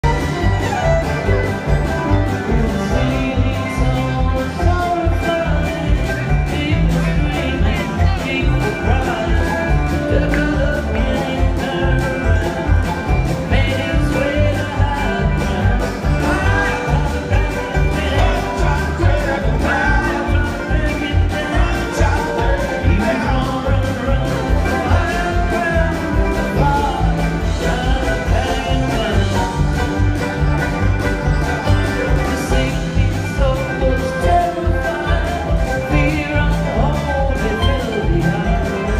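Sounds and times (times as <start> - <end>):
acoustic guitar: 0.0 - 38.9
drums: 0.0 - 38.9
upright bass: 0.0 - 38.9.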